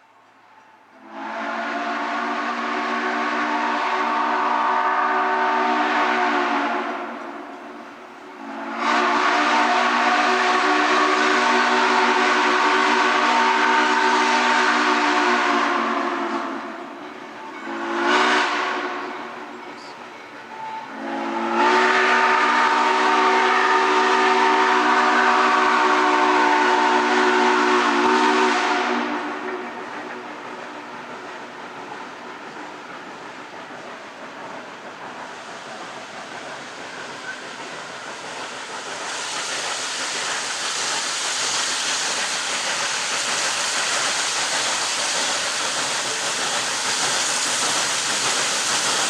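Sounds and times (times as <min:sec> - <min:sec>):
steam locomotive chime whistle: 0:00.3 - 0:31.1, 0:34.5 - 0:49.0
hiss of steam: 0:01.0 - 0:49.0.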